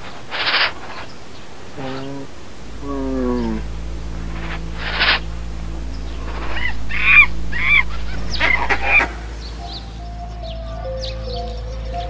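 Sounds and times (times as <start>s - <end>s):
honking animal calls: 0.3s - 10.2s.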